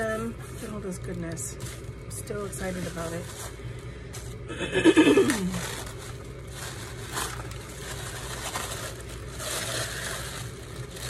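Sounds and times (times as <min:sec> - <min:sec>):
tissue paper rustling: 0:00.0 - 0:11.0.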